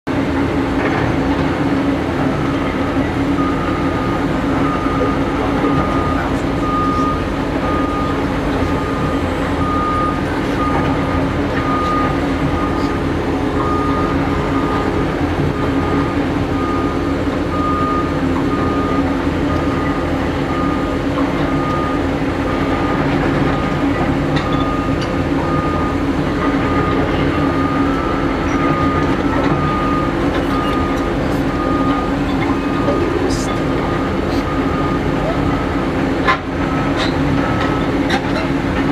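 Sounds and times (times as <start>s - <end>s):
excavator diesel engine running: 0.1s - 38.9s
back-up alarm beeping: 2.5s - 36.0s, 36.6s - 38.0s.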